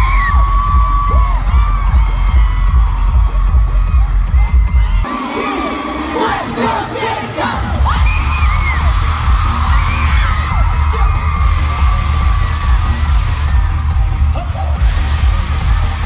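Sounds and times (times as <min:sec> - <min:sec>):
fans screaming and whooping: 0:00.0 - 0:16.0
loud concert music with heavy bass: 0:00.0 - 0:16.0.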